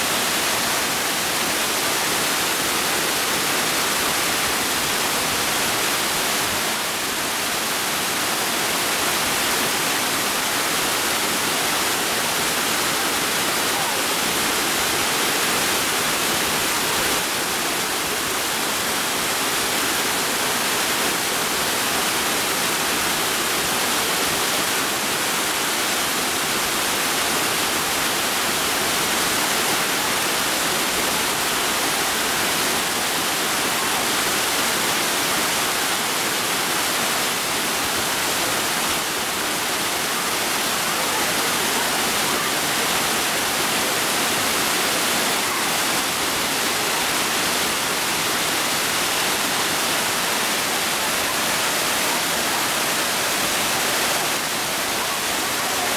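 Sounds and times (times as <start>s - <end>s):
waterfall pouring into pool: 0.0s - 55.9s.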